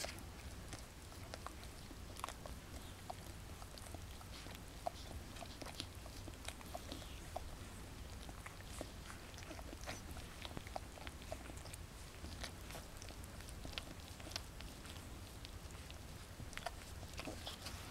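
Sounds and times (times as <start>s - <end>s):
dog licking puppies: 0.0s - 17.9s
puppies nursing wet smacks: 0.0s - 17.9s.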